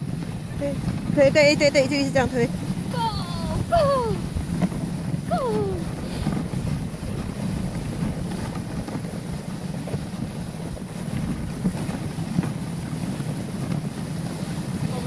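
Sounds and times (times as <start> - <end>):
sled runners scraping snow: 0.0 - 15.0
wind buffeting microphone: 0.0 - 15.0.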